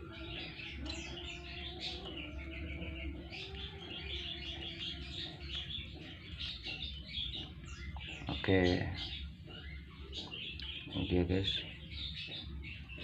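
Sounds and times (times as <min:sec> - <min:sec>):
nestlings chirping: 0:00.0 - 0:13.0.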